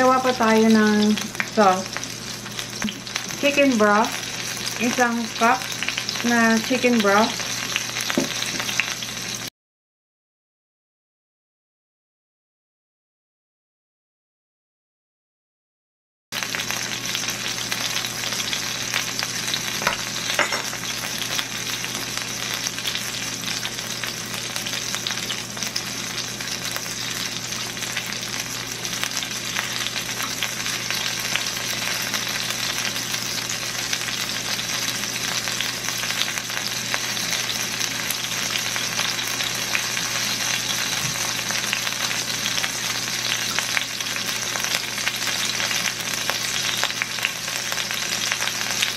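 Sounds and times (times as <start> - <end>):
chicken frying in oil: 0.0 - 9.5, 16.4 - 48.9.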